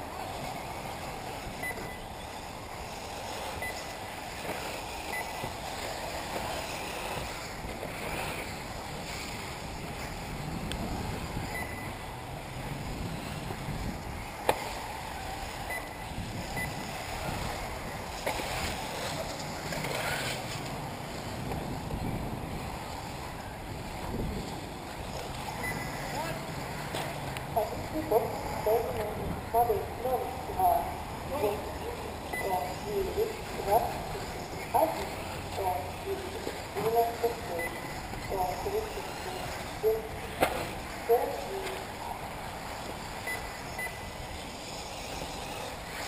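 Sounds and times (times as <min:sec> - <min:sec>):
toy cars whirring: 0:00.0 - 0:46.0.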